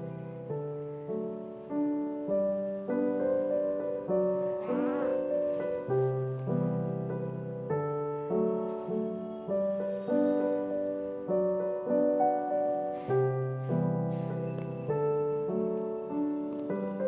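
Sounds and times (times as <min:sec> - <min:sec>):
soft solo piano music: 0:00.0 - 0:17.0.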